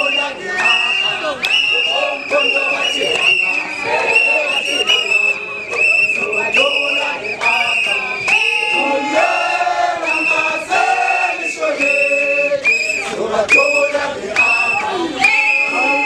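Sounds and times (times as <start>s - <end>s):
crowd singing and chanting: 0.0s - 16.0s.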